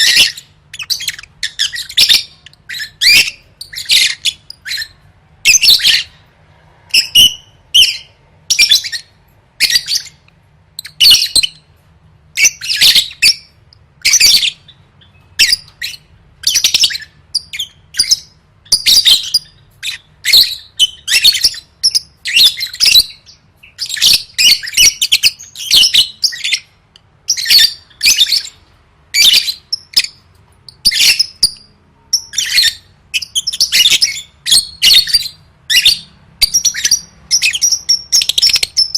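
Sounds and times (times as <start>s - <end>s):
lovebird chirps and squawks: 0.0s - 6.3s, 6.9s - 11.7s, 12.3s - 38.9s.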